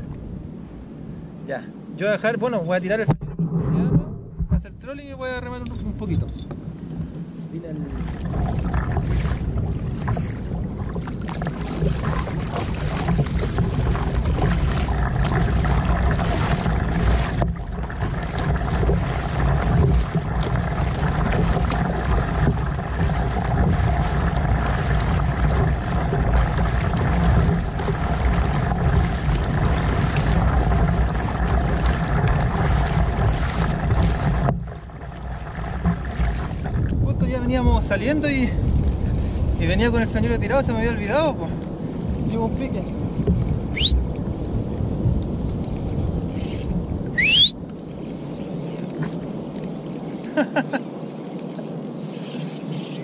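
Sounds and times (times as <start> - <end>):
wind rumble on microphone: 0.0 - 53.0
kayak paddle splashing: 2.8 - 53.0.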